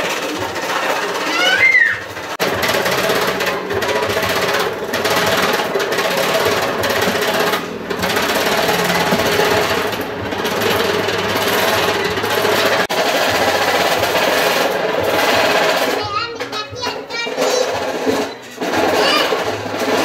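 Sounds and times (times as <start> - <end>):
power tool mechanical chatter: 0.0 - 20.0.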